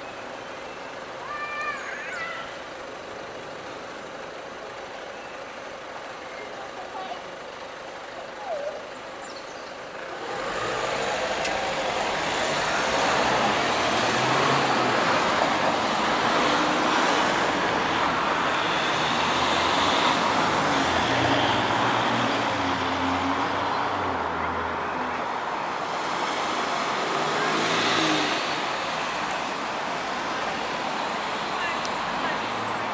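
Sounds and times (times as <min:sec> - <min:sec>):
road traffic driving past: 0:00.0 - 0:32.9.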